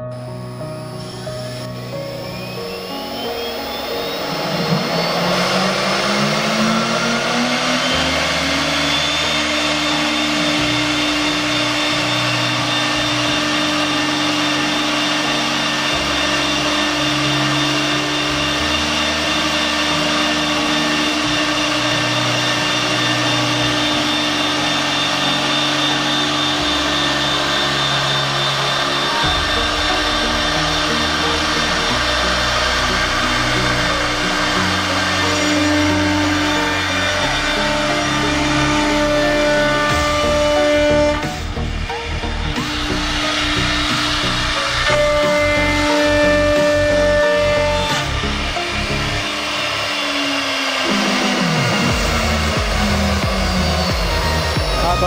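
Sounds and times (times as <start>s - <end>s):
cnc router spindles whining: 0.0s - 55.0s
router bits cutting plywood: 0.0s - 55.0s.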